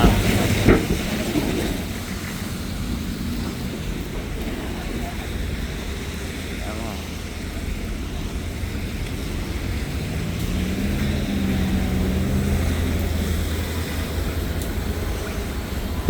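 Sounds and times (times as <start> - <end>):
street traffic rumbling: 0.0 - 16.0
vehicle engine passing: 0.0 - 16.0.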